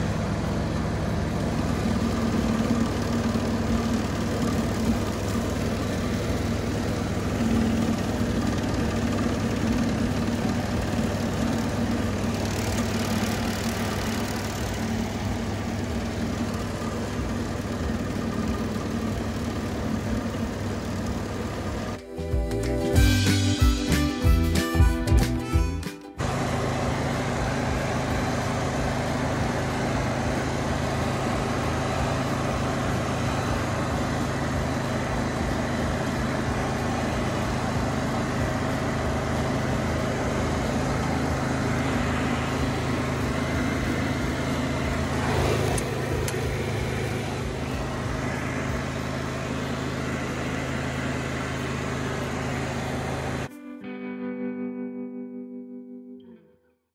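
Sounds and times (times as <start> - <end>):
ride-on mower engine under load: 0.0 - 25.3, 26.2 - 53.5.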